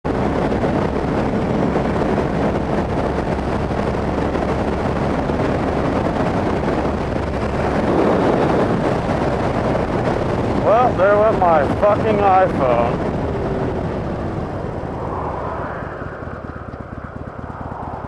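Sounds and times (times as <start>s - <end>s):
motorcycle engine hum: 0.1s - 18.0s
wind rushing on microphone: 0.1s - 18.0s.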